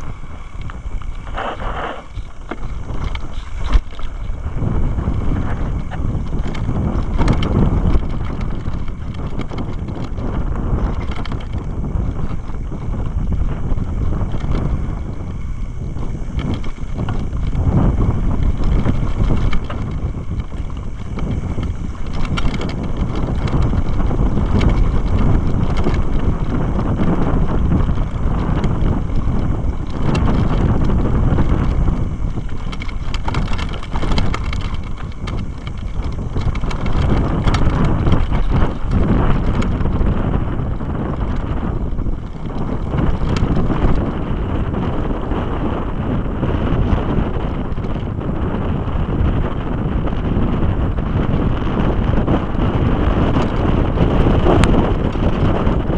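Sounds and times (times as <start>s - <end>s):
bike rattling and knocking: 0.0s - 55.9s
wind buffeting microphone: 0.0s - 55.9s.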